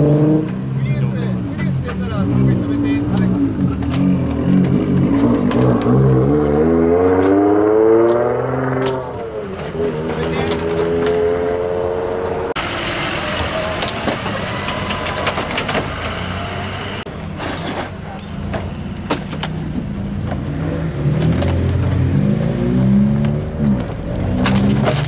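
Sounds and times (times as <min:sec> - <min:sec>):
car engine revving: 0:00.0 - 0:17.1, 0:18.7 - 0:25.0.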